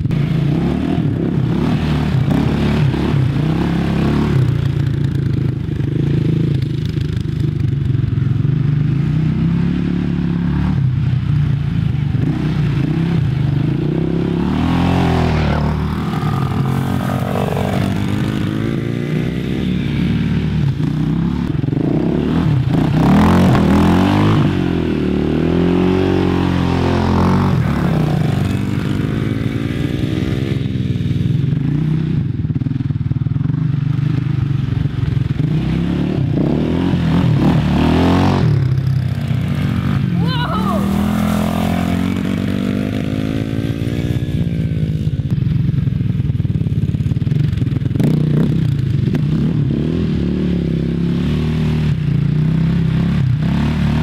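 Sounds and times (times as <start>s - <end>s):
quad bike engines revving: 0.0s - 54.0s.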